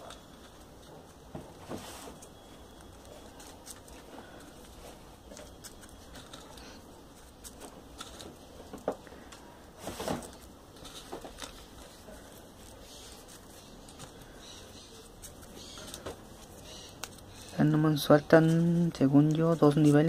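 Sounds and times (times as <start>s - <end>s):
paper rustling and clicking: 0.0s - 20.0s.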